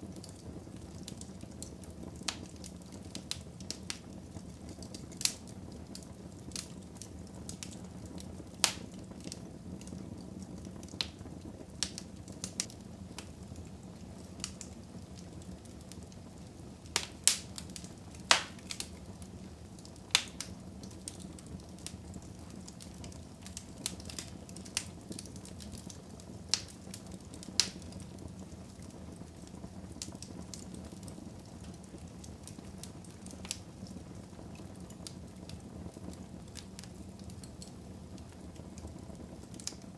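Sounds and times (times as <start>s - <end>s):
fire crackles and pops: 0.0s - 39.9s
low rush of flames: 0.0s - 39.9s.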